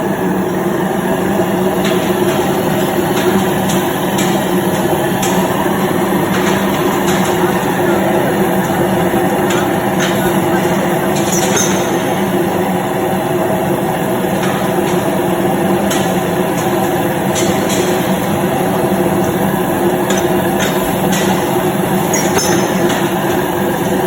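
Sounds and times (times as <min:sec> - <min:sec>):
loud machine drone: 0:00.0 - 0:24.0.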